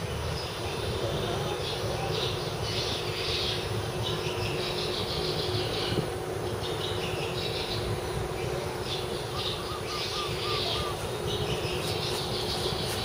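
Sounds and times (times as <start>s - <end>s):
birds chirping: 0.0s - 13.0s
short evenly spaced bird notes: 0.0s - 13.0s.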